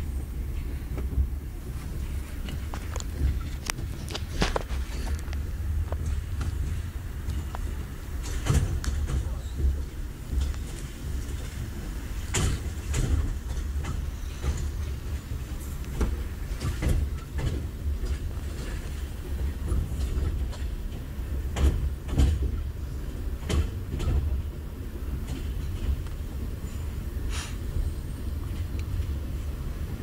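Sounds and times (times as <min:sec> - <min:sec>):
train rumbling on track: 0:00.0 - 0:30.0
wheels knocking on rail joints: 0:00.9 - 0:26.6.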